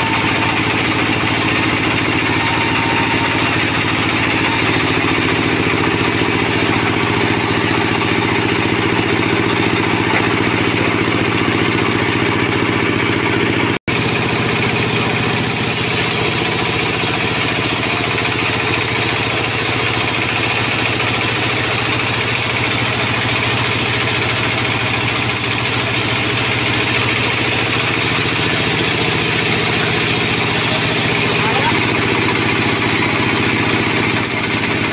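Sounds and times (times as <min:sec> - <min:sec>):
band saw cutting log: 0:00.0 - 0:34.9.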